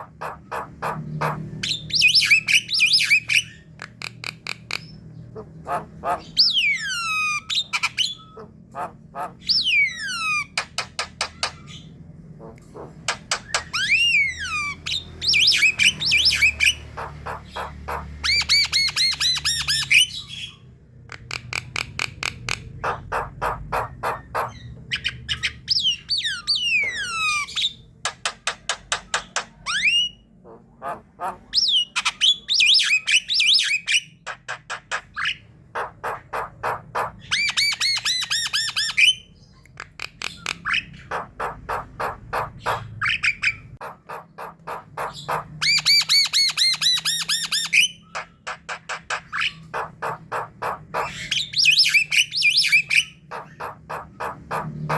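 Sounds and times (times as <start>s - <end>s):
mynas calling: 0.0s - 27.8s, 29.2s - 54.9s.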